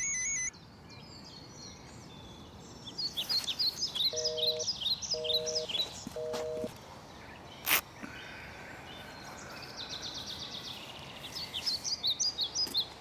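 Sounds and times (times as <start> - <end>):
outdoor background noise: 0.0 - 13.0
songbirds singing: 0.0 - 13.0.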